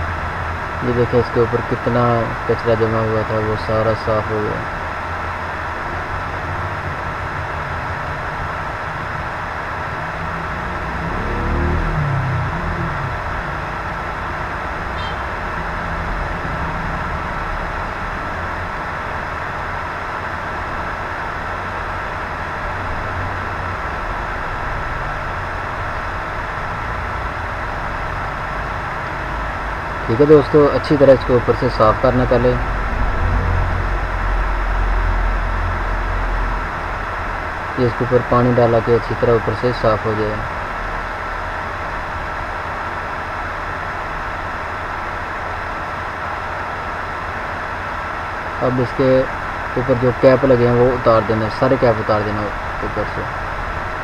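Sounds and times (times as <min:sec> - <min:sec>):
faint high whine: 0:00.0 - 0:54.0
faint steady hum: 0:00.0 - 0:54.0
machine-like drone with hiss: 0:00.0 - 0:54.0.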